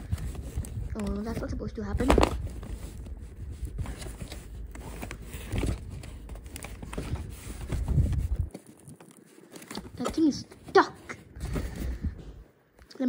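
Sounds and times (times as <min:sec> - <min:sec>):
cardboard rustling and scraping: 0:00.0 - 0:12.4.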